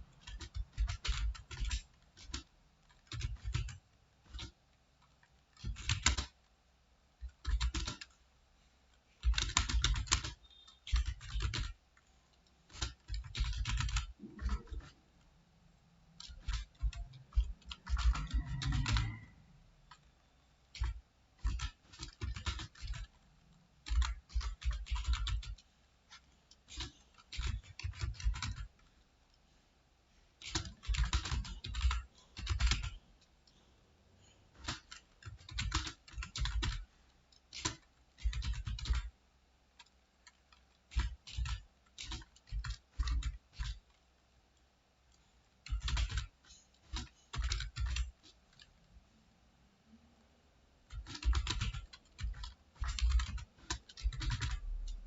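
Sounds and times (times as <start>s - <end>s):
keyboard typing: 0.0s - 6.5s, 7.2s - 8.3s, 8.9s - 29.4s, 30.4s - 44.0s, 45.1s - 49.0s, 50.8s - 55.0s.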